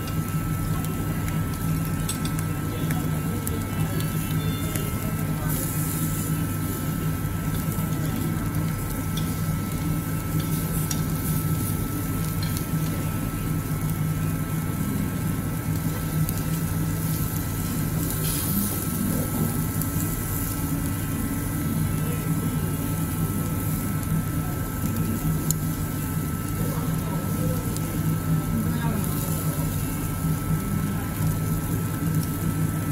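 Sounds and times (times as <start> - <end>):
meat sizzling on a grill: 0.0 - 32.9.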